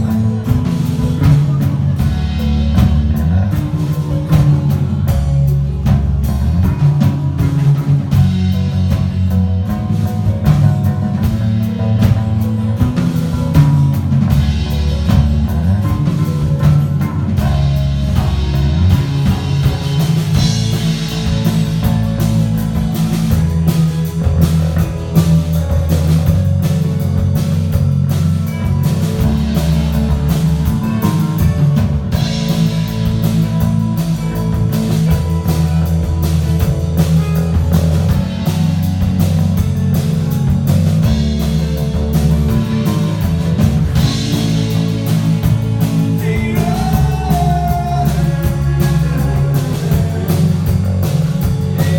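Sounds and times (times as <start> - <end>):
live band guitar and drums: 0.0 - 51.9.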